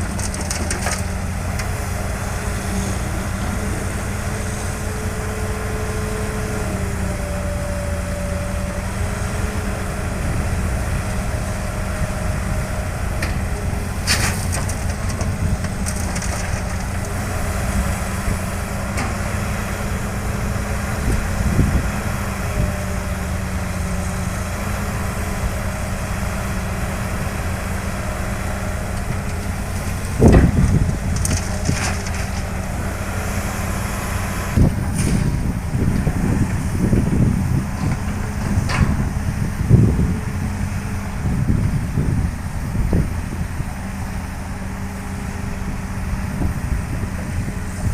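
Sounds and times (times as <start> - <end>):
diesel construction machinery running: 0.0 - 47.9.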